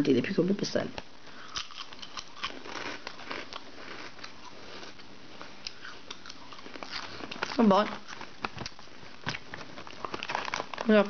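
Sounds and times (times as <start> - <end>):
chewing crunchy snack: 1.4 - 11.0.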